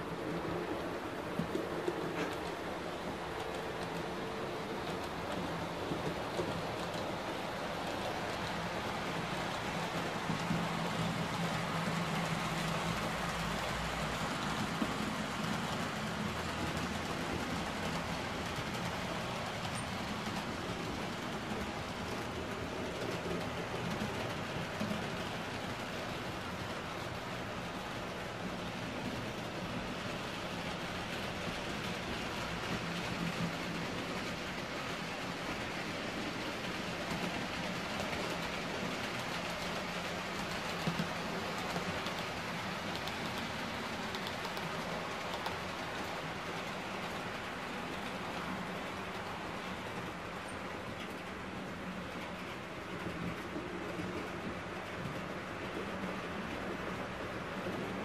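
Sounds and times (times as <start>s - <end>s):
model train wheels rolling: 0.0s - 58.0s.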